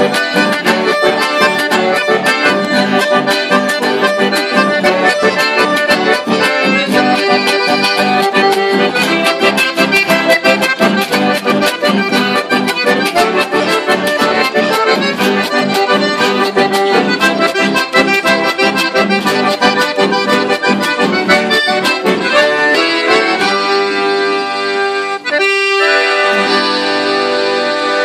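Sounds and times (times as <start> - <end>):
accordions playing: 0.0 - 28.0
guitar accompaniment: 0.0 - 28.0.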